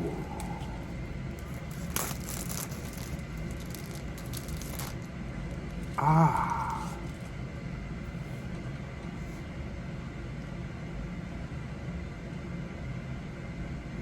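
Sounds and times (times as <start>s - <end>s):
room hum and hiss: 0.0s - 14.0s.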